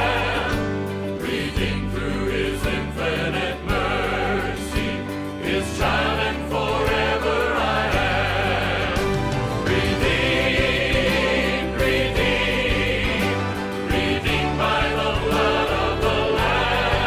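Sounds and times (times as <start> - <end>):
choir singing gospel music: 0.0 - 17.0
instrumental accompaniment: 0.0 - 17.0.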